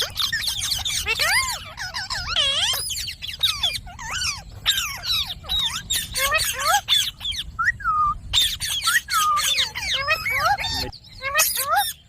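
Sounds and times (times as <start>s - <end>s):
parrot chattering: 0.0s - 7.5s, 8.3s - 12.0s.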